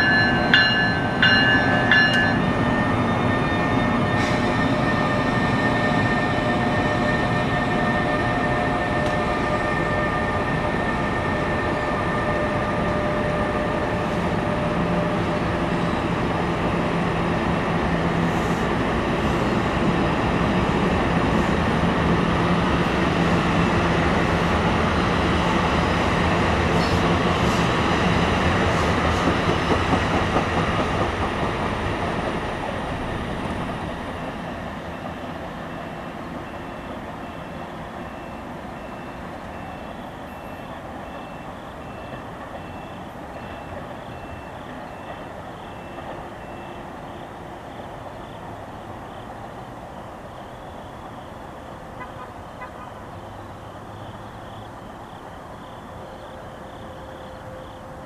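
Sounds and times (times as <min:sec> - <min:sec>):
electric locomotive whine: 0:00.0 - 0:58.0
train wheels rumbling on rails: 0:00.0 - 0:58.0.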